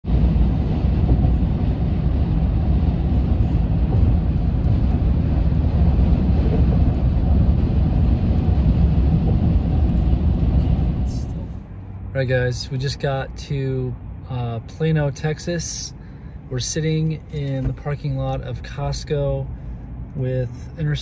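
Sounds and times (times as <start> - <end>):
tyre road rumble: 0.0 - 21.0
wind noise in car: 0.0 - 21.0.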